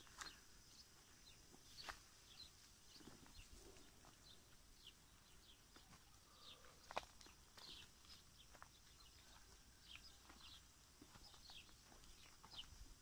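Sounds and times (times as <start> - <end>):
faint steady hiss: 0.0 - 13.0
footsteps on dry ground: 0.0 - 13.0
small birds chirping: 0.0 - 13.0.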